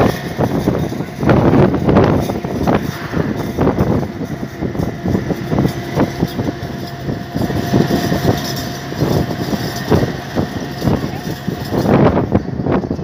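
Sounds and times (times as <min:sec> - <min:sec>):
knocks and rattles: 0:00.0 - 0:13.0
vehicle engine and road rumble: 0:00.0 - 0:13.0.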